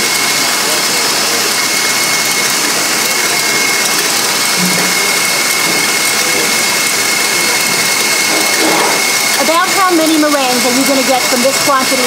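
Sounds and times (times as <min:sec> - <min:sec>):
stand mixer whirring: 0:00.0 - 0:12.0.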